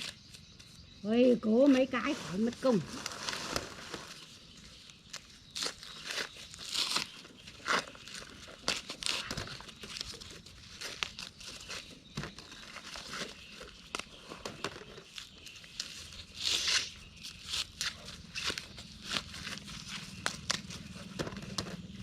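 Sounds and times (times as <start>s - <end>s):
dry corn leaves rustling: 0.0s - 22.0s.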